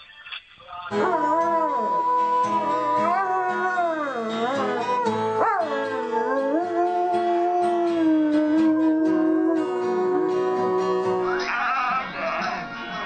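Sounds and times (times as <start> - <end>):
music: 0.0 - 13.0
dog howling: 0.9 - 11.8.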